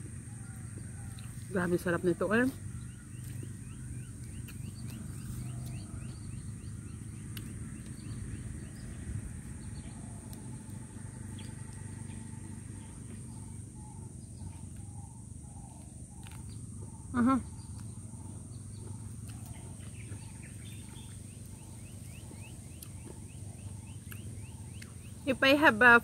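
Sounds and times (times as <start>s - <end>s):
birds chirping: 0.0s - 26.0s
low background rumble: 0.0s - 26.0s.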